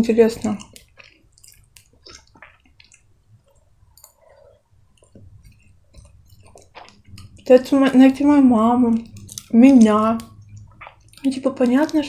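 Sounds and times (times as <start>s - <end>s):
close-up chewing: 0.0s - 12.0s
wet mouth clicks: 0.4s - 8.0s, 8.8s - 12.0s.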